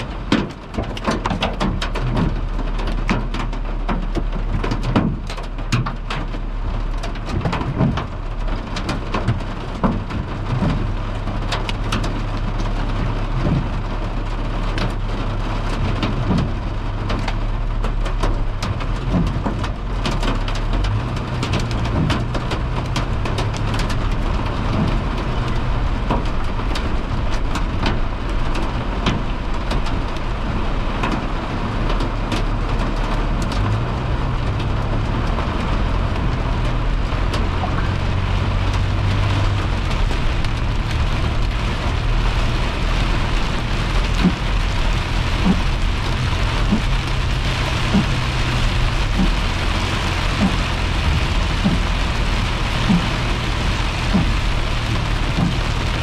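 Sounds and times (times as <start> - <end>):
hail and heavy rain on car roof: 0.0 - 56.0.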